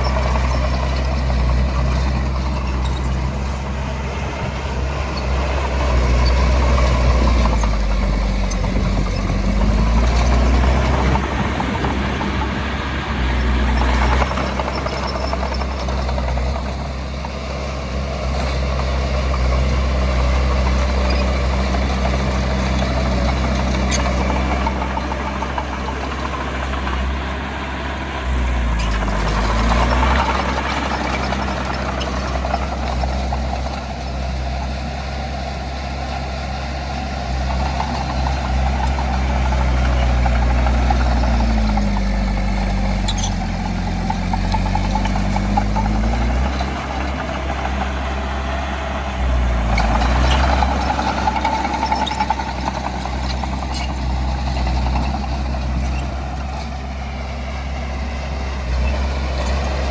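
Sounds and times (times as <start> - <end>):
heavy diesel engine working: 0.0 - 59.9.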